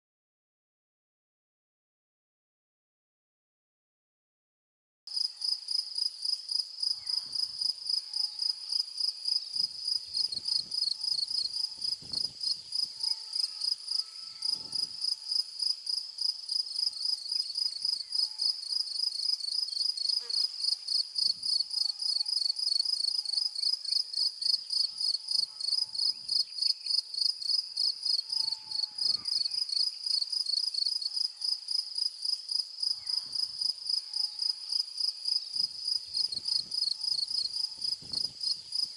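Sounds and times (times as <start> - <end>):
crickets chirping: 5.2 - 38.9.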